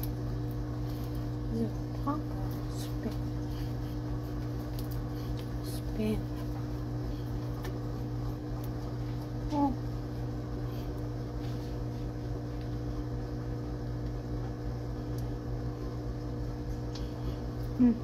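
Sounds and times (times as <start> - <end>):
household machinery humming: 0.0 - 18.0.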